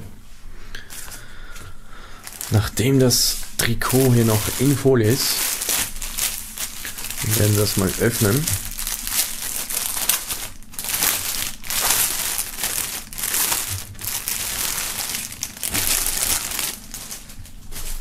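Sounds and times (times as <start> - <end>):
plastic film crinkling: 2.2 - 18.0.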